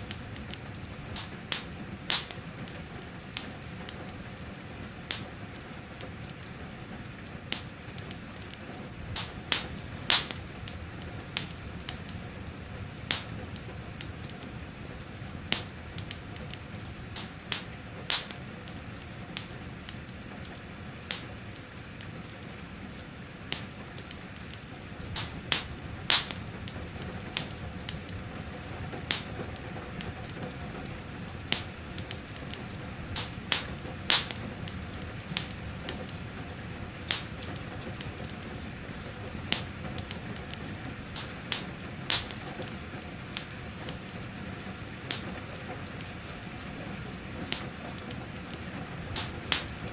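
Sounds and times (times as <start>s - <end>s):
gentle rain hiss: 0.0s - 49.9s
wood fire crackling and popping: 0.0s - 49.9s.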